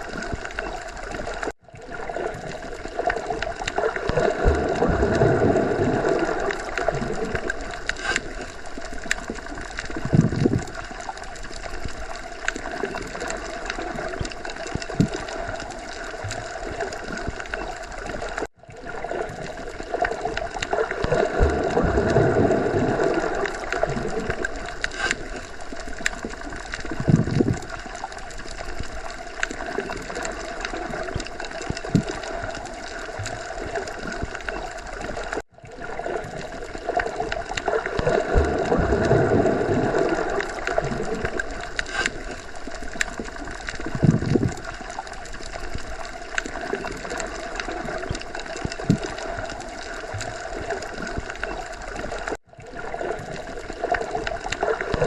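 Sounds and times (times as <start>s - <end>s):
underwater water swirling: 0.0s - 55.0s.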